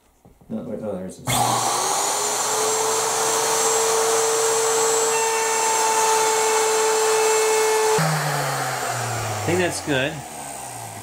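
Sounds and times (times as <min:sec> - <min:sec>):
electric router whining: 0:01.3 - 0:11.0.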